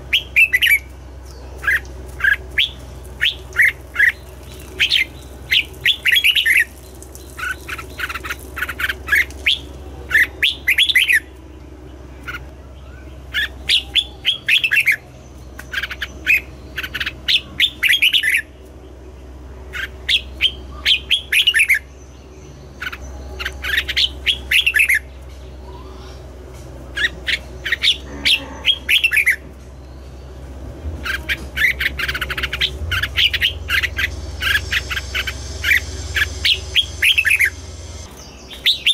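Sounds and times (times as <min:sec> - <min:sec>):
bird chirping song: 0:00.0 - 0:38.9
steady low hum: 0:00.0 - 0:38.9.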